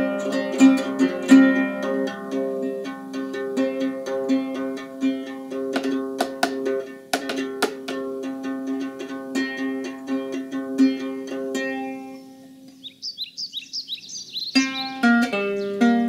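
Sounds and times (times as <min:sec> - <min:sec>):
lyre strings plucked: 0:00.0 - 0:12.8, 0:14.5 - 0:16.0.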